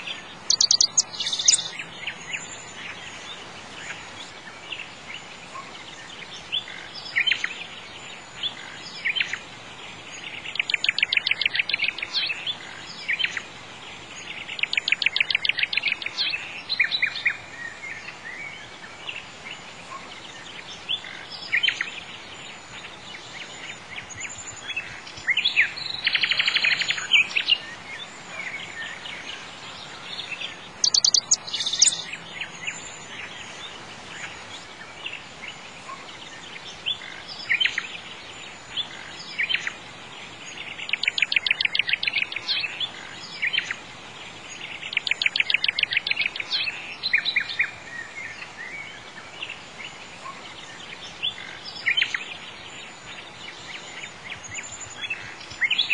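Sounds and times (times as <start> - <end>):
birds singing with trills: 0.0 - 55.9
steady background hiss: 0.0 - 55.9.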